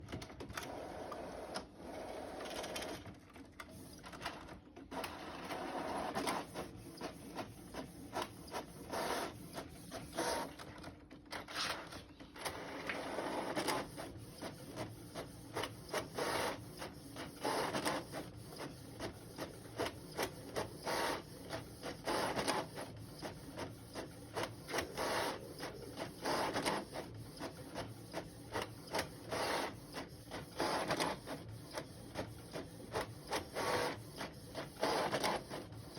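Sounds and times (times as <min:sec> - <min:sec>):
printer whirring and clicking: 0:00.0 - 0:35.9.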